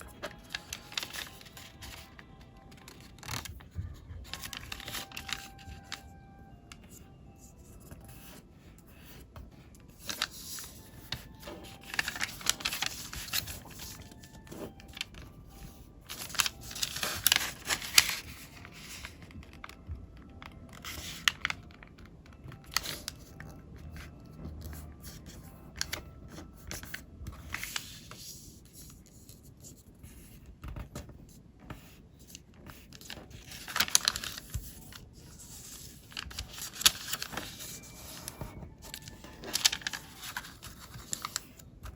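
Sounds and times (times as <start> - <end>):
paper rustling and crinkling: 0.0 - 41.9.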